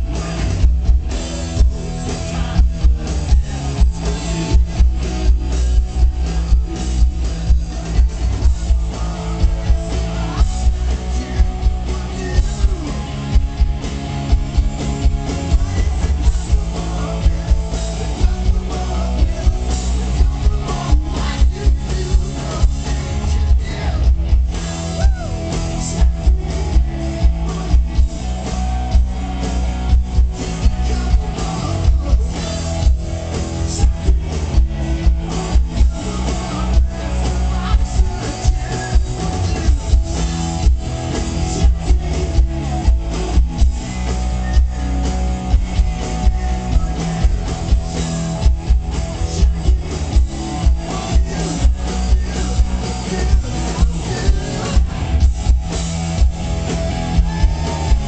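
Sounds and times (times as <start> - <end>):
bass guitar: 0.0 - 58.0
drum kit beat: 0.0 - 58.0
electric guitar: 0.0 - 58.0.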